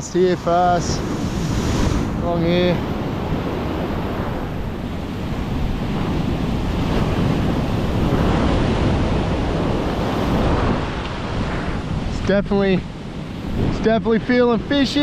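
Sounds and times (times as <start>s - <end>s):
ocean surf breaking: 0.0s - 15.0s
wind rumbling on microphone: 0.0s - 15.0s.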